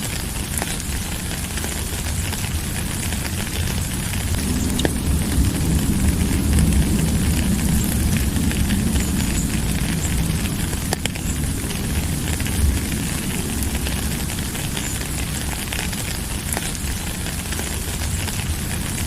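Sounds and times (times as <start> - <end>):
low rumble: 0.0 - 19.0
rain hiss: 0.0 - 19.0
raindrops ticking: 0.0 - 19.0.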